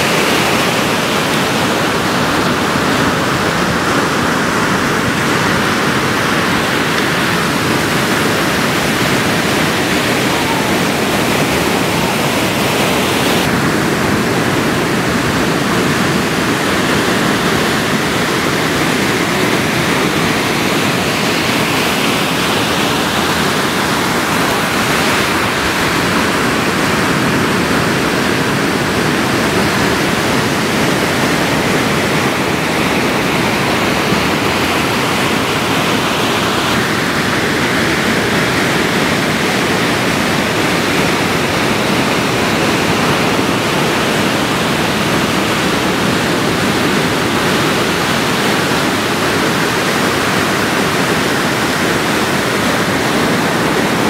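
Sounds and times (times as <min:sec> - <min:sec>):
ocean surf rushing: 0:00.0 - 0:54.0.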